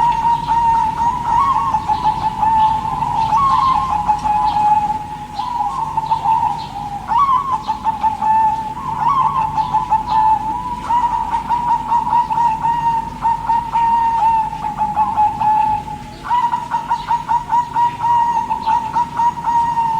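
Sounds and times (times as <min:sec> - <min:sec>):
dove cooing: 0:00.0 - 0:19.9
small birds chirping: 0:00.0 - 0:19.9.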